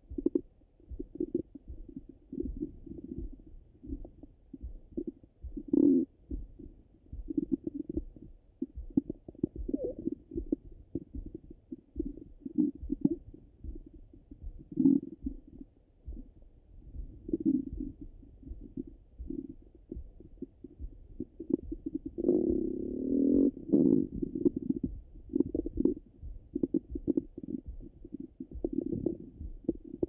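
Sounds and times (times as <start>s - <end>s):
stomach gurgles and rumbles: 0.0s - 30.0s.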